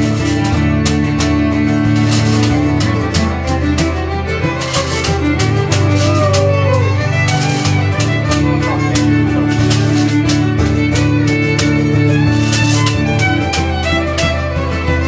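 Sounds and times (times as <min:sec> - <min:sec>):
fiddle playing tune: 0:00.0 - 0:15.0
steady beat: 0:00.0 - 0:15.0
strummed guitar: 0:00.0 - 0:15.0.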